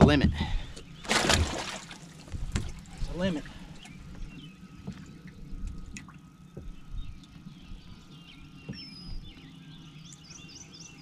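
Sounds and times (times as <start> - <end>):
low uneven rumble: 0.0 - 10.8
songbirds chirping and whistling: 0.0 - 11.0.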